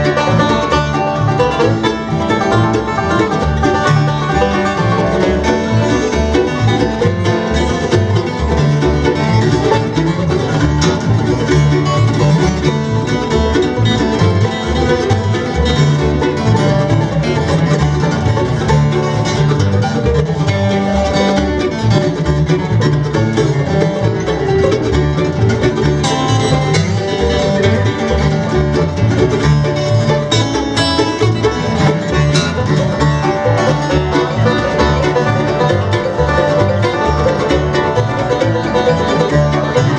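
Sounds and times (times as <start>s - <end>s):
bluegrass band playing: 0.0s - 39.9s.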